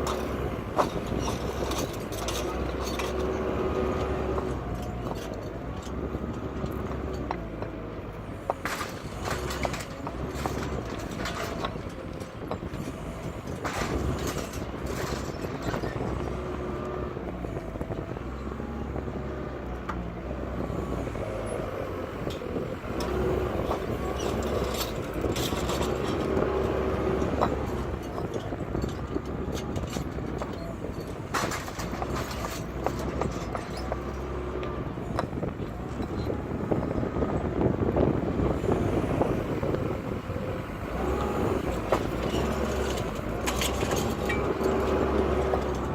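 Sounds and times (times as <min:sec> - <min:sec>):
diesel machinery running: 0:00.0 - 0:45.9.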